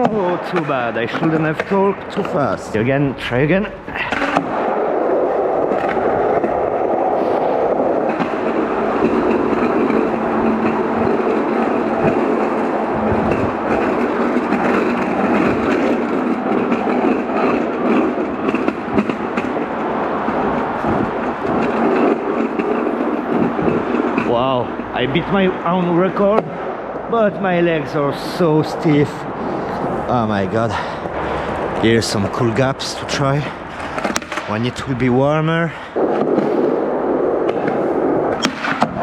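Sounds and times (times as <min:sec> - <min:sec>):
skateboard wheels rolling on pavement: 0:00.0 - 0:39.0.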